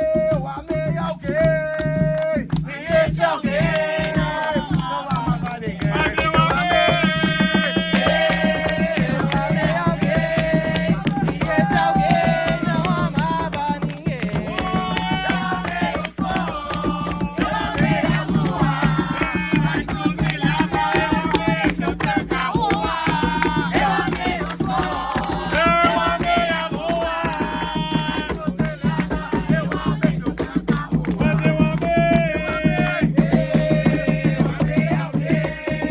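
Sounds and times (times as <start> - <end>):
hand drums playing rhythm: 0.0 - 35.9
voices singing melody: 0.0 - 35.9.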